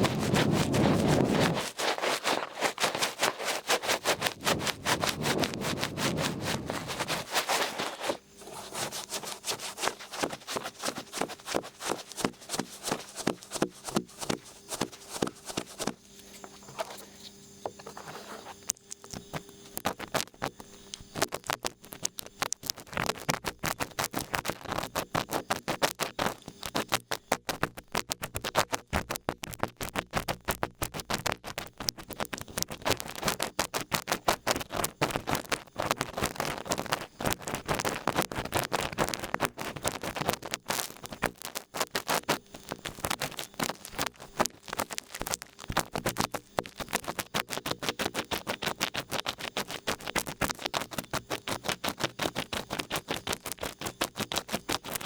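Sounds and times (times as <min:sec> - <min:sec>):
ear pick scratching microphone: 0:00.0 - 0:55.0.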